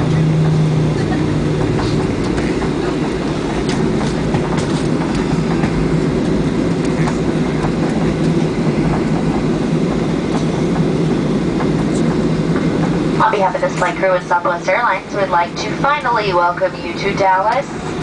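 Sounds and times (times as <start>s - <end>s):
aircraft engine and airframe rumble: 0.0s - 18.0s.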